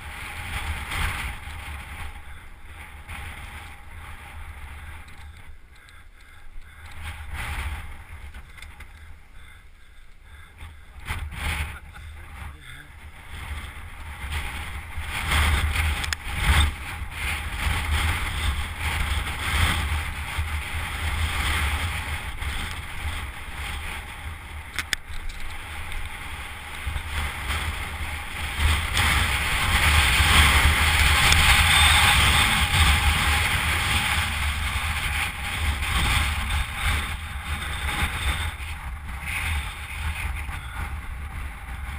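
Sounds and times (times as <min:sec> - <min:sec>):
bike tyres rolling on rough trail: 0:00.0 - 0:41.9
wind buffeting microphone: 0:00.0 - 0:41.9.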